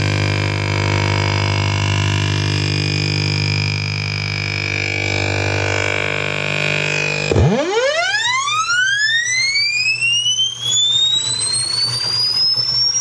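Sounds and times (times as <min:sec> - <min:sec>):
electronic drone of stacked tones: 0:00.0 - 0:13.0
low hum: 0:00.0 - 0:13.0.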